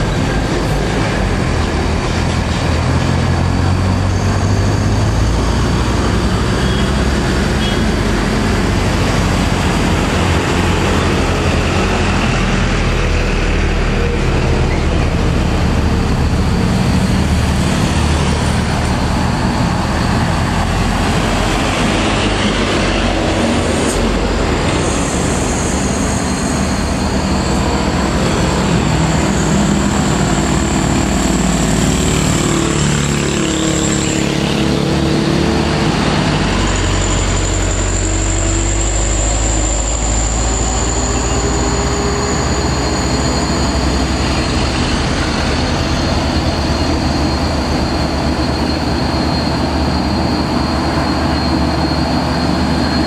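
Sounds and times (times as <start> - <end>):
diesel truck engines labouring: 0.0 - 53.0.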